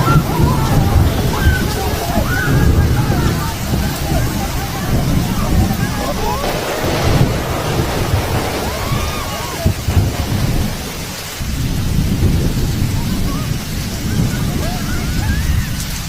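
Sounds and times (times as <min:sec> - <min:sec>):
heavy rain: 0:00.0 - 0:16.0
thunder rumbling: 0:00.0 - 0:16.0
wind: 0:00.0 - 0:16.0.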